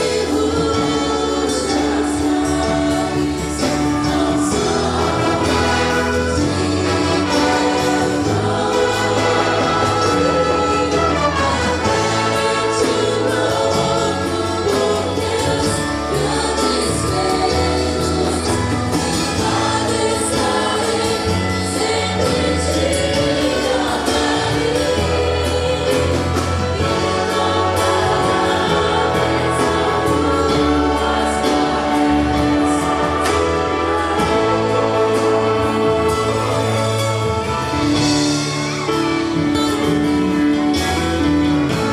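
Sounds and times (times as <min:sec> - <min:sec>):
choir singing gospel song: 0:00.0 - 0:41.9
instrumental accompaniment: 0:00.0 - 0:41.9.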